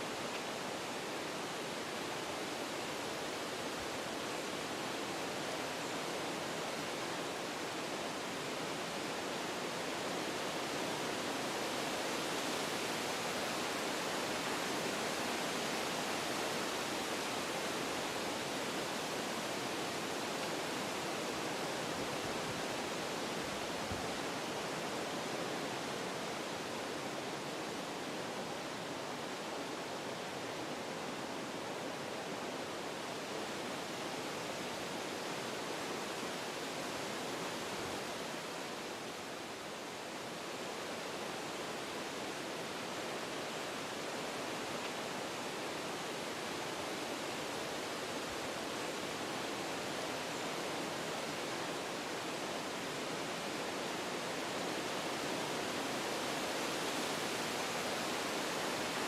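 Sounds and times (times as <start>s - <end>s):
wind through forest trees: 0.0s - 59.0s.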